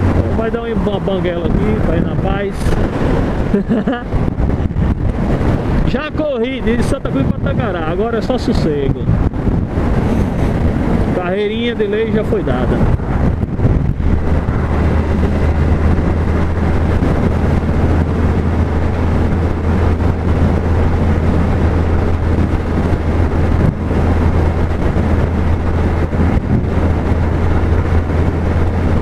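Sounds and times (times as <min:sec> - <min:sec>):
motorcycle engine droning: 0:00.0 - 0:05.8, 0:09.2 - 0:29.0
wind rush on microphone: 0:00.0 - 0:29.0.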